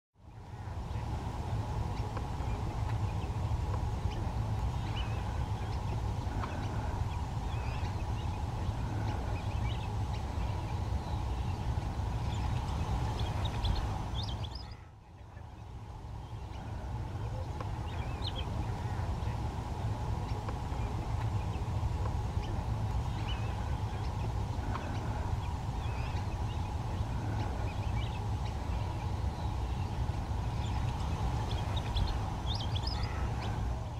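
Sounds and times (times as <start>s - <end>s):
steady low rumble: 0.2s - 33.9s.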